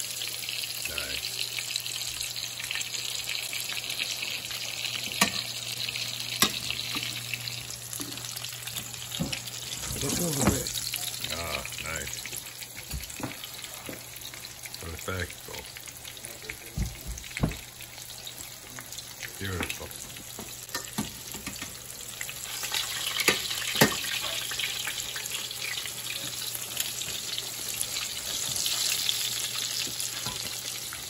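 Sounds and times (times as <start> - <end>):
pork cutlets sizzling in oil: 0.0 - 31.0.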